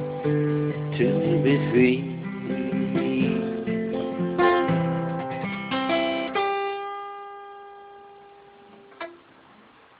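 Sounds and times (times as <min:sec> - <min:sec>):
acoustic guitar picking: 0:00.0 - 0:09.8.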